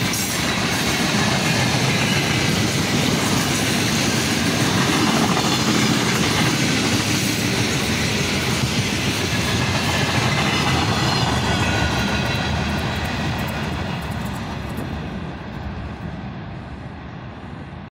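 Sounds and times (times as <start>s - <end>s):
freight train wagons rolling past: 0.0s - 17.9s.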